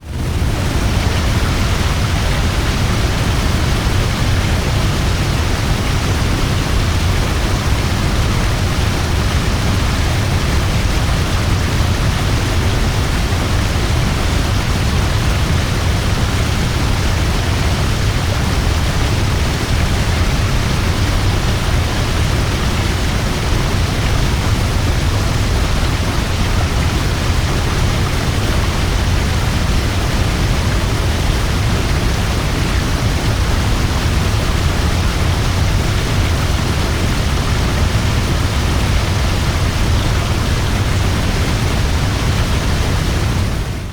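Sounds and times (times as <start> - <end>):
waterfall rushing: 0.1 - 43.9.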